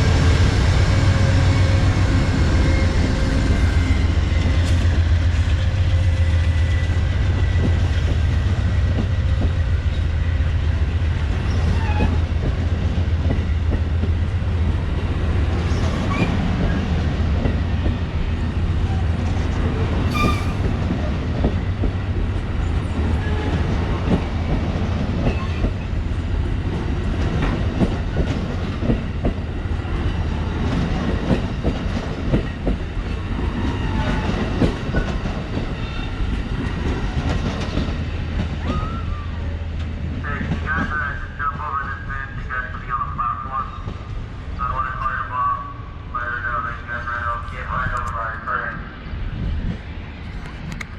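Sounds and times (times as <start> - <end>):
passenger train rumbling past: 0.0 - 50.9.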